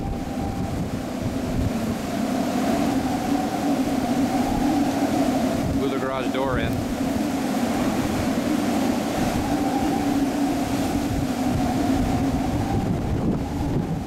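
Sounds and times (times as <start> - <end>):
wind buffeting microphone: 0.0 - 14.0
wind howling: 0.0 - 14.0.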